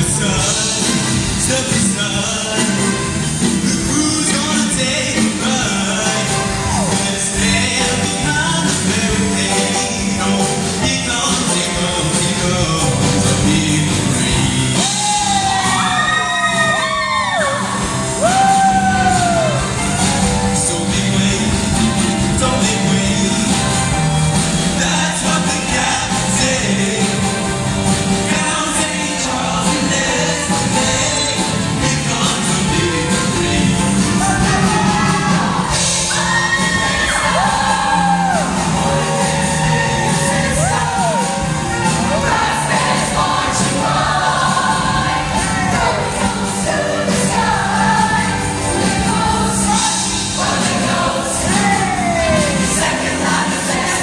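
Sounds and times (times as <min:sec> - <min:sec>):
choir singing: 0:00.0 - 0:54.0
loud band accompaniment: 0:00.0 - 0:54.0.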